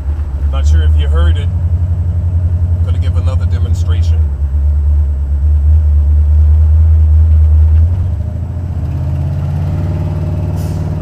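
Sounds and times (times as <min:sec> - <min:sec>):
engine rumbling and revving: 0:00.0 - 0:11.0.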